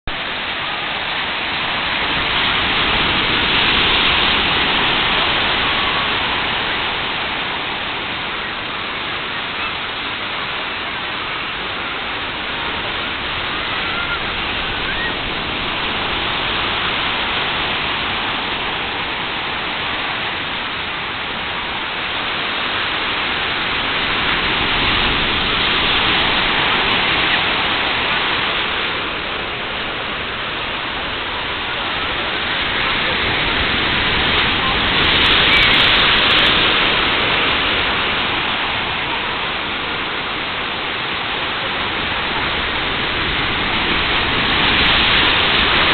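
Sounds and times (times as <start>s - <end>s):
surf breaking on rocks: 0.1s - 8.6s, 12.2s - 45.9s.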